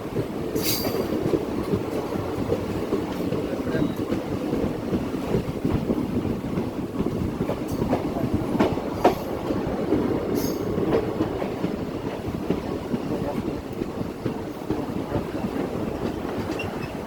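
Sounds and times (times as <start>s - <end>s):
train wheels clattering: 0.0s - 17.0s.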